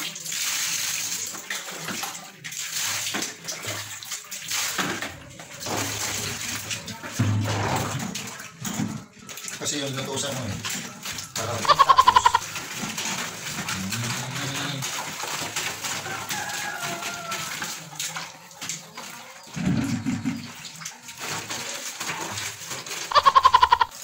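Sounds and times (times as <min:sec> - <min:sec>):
water sloshing in basin: 0:01.2 - 0:24.0.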